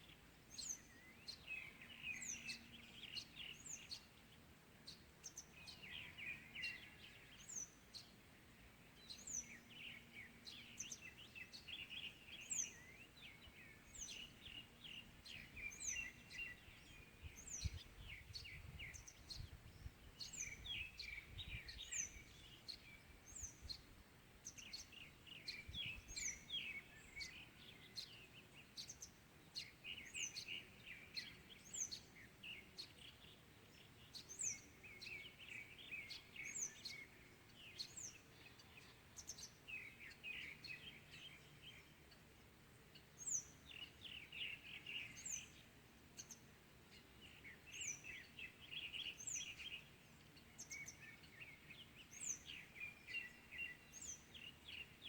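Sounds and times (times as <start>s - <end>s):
birds twittering: 0.0s - 55.0s.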